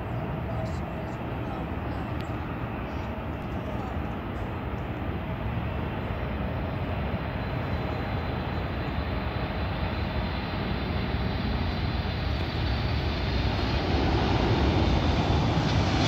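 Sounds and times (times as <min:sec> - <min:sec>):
jet engine rumble: 0:00.0 - 0:16.0.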